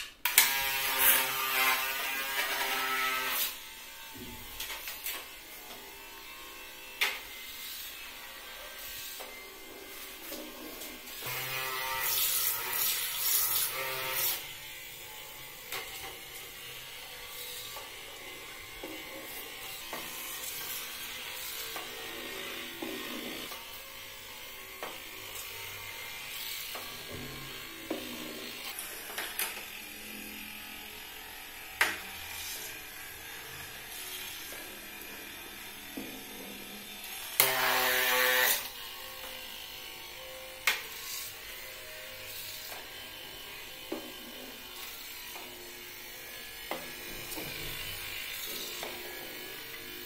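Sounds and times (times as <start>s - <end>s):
small motor whirring: 0.3s - 50.0s.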